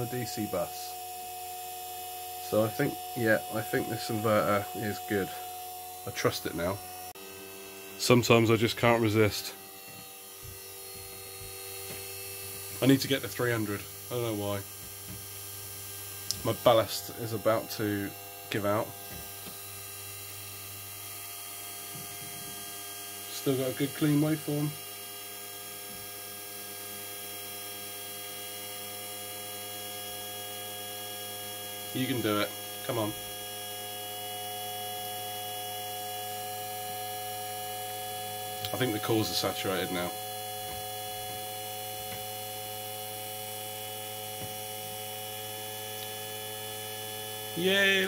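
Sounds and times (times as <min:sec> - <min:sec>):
electrical hum with whining tones: 0:00.0 - 0:48.0.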